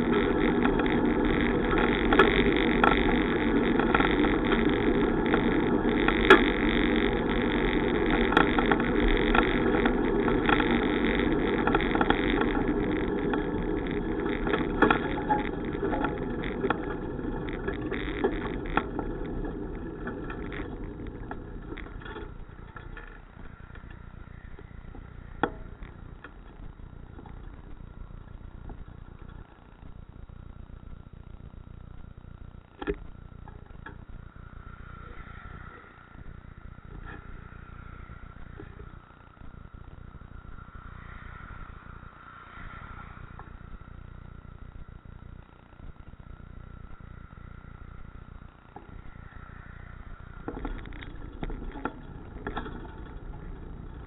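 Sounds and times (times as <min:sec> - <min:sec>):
bicycle road and wind noise: 0:00.0 - 0:54.0.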